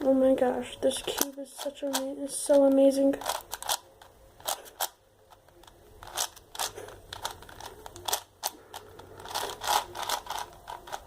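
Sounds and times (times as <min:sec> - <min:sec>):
plastic puzzle cube clicking: 0:01.0 - 0:11.0.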